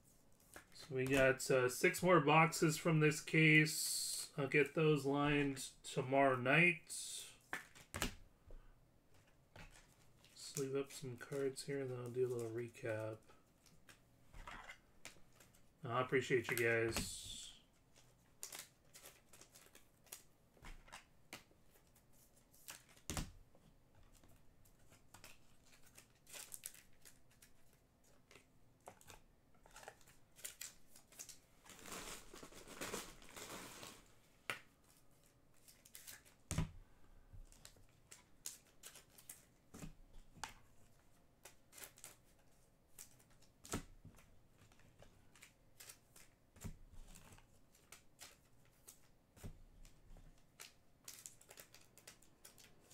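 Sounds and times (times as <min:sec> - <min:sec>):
plastic sleeves rustling: 0:00.0 - 0:52.9.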